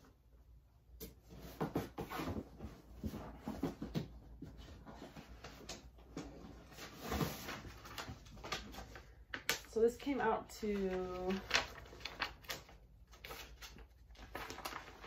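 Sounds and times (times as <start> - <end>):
clothes and plastic bags rustling: 2.4 - 15.0.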